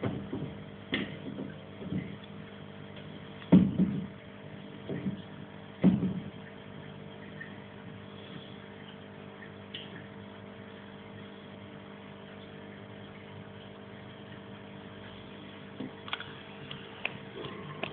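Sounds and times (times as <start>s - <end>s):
aquarium filter pump hum: 0.0s - 17.9s.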